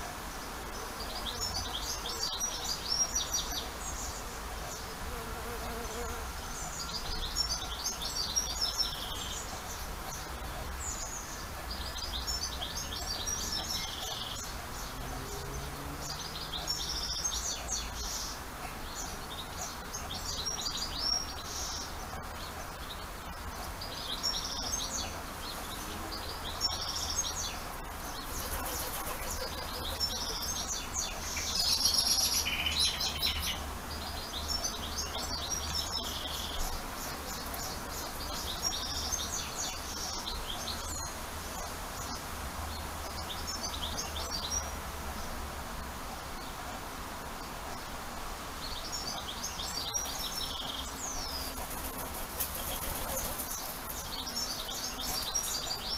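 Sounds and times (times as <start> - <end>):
songbirds twittering: 0.0 - 55.9.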